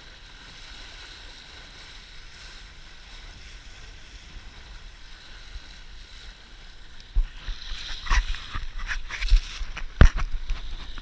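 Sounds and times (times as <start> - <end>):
rushing wind: 0.0 - 11.0
wind buffeting on camera: 0.0 - 11.0.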